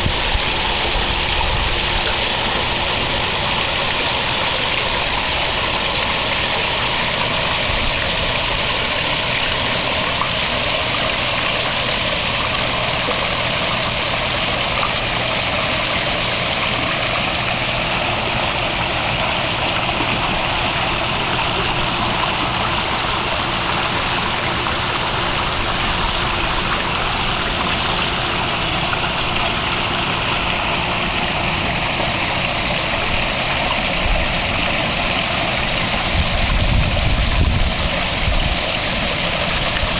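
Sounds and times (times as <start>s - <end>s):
water splashing in pond: 0.0s - 39.9s.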